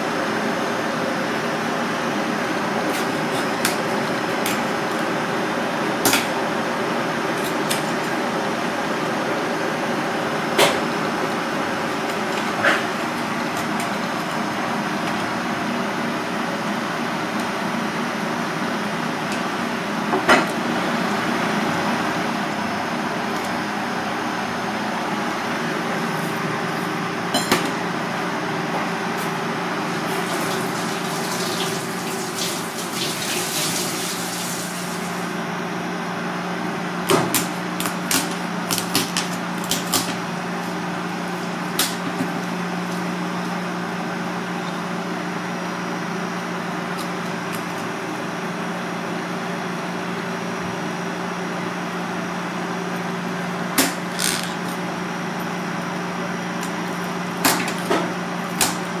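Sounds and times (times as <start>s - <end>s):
kitchen hum: 0.0s - 59.0s.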